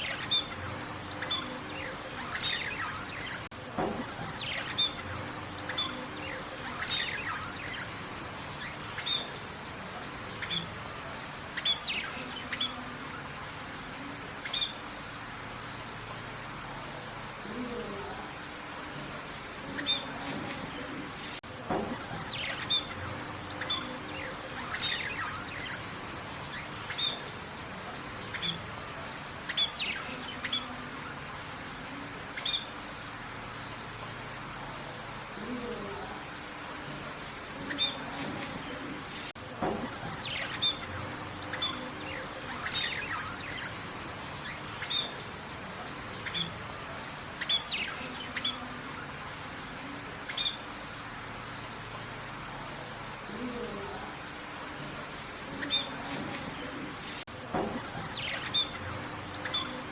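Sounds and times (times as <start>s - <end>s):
birds chirping: 0.0s - 59.9s
outdoor ambience hiss: 0.0s - 59.9s.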